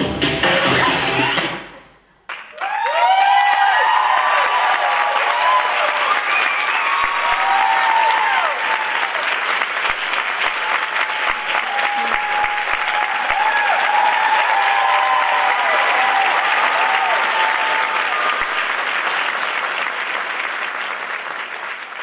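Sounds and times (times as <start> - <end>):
audience applauding: 2.2 - 22.0.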